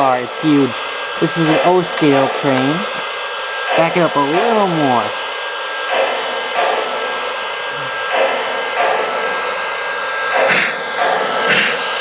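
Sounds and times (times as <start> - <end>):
toy train steam hiss and chuffs: 0.0 - 12.0.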